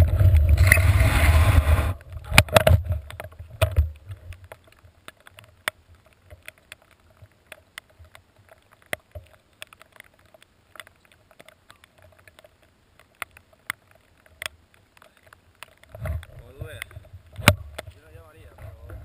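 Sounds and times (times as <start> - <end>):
raindrops ticking on camera housing: 0.0 - 19.0.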